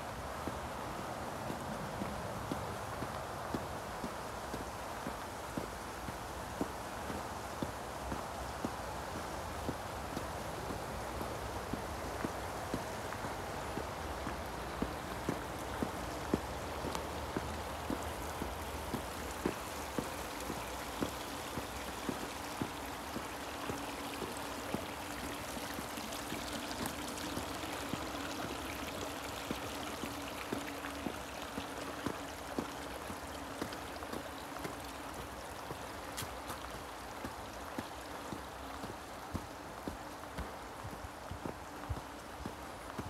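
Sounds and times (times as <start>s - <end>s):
footsteps on paved road: 0.0s - 43.0s
steady rushing hiss: 0.0s - 43.0s.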